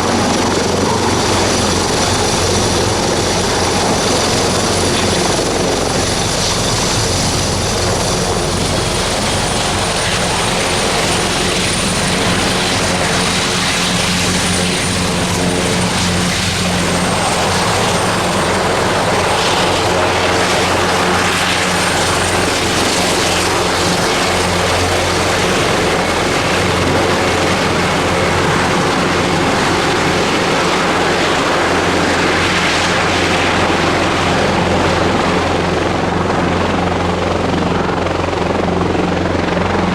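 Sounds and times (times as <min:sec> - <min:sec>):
helicopter running loudly: 0:00.0 - 0:39.9
high turbine whine: 0:00.0 - 0:39.9.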